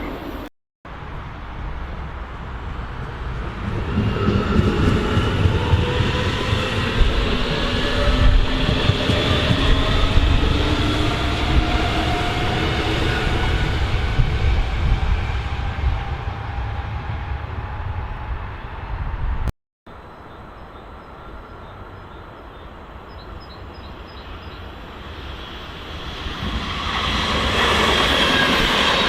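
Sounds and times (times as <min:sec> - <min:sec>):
train rumbling past: 0:00.0 - 0:19.5, 0:22.9 - 0:29.0.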